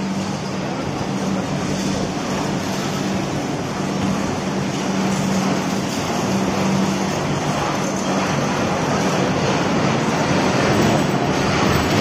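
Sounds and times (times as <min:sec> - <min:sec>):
passenger train rumble: 0:00.0 - 0:12.0.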